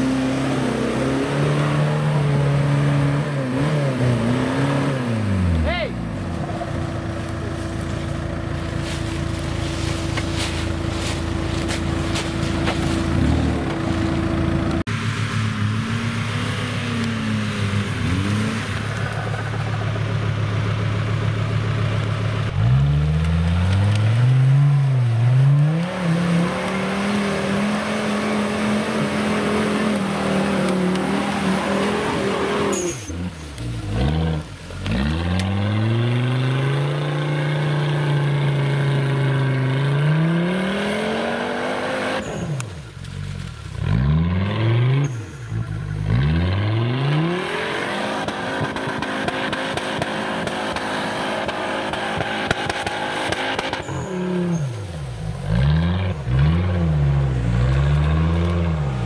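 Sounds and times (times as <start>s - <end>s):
off-road vehicle engines revving: 0.0s - 59.0s.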